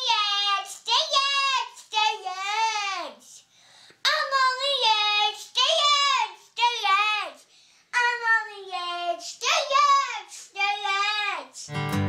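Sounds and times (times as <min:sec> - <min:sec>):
young child singing: 0:00.0 - 0:11.8.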